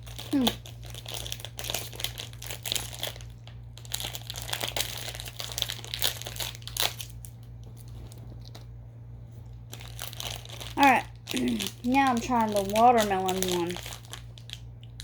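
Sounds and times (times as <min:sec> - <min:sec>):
plastic wrapper crinkling: 0:00.0 - 0:08.8, 0:09.4 - 0:15.0.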